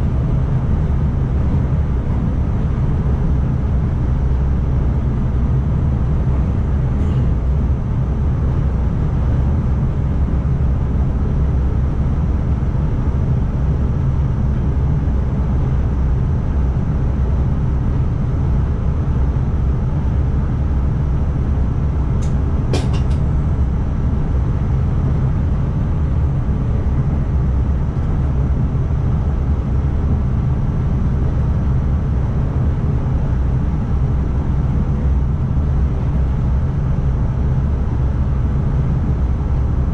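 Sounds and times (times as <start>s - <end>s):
train low rumble: 0.0s - 39.9s.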